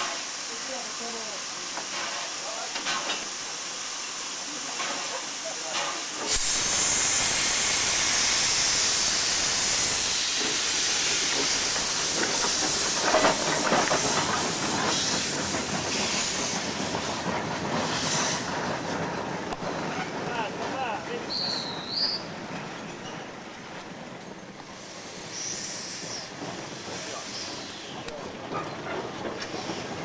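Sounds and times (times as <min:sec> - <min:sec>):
steam locomotive venting steam: 0:00.0 - 0:30.0.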